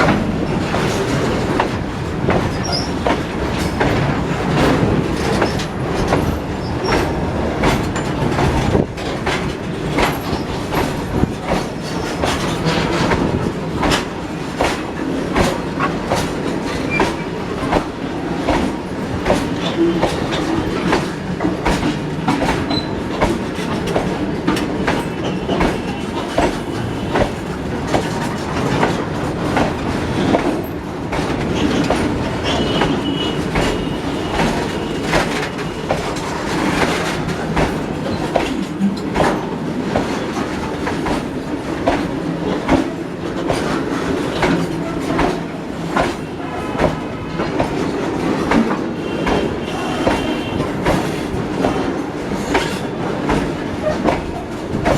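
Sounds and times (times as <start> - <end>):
train wheels clattering over rail joints: 0.0 - 54.9.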